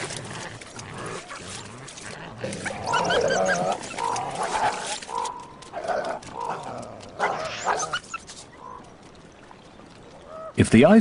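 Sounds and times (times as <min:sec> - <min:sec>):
coyotes yelping and whining: 0:00.0 - 0:09.1.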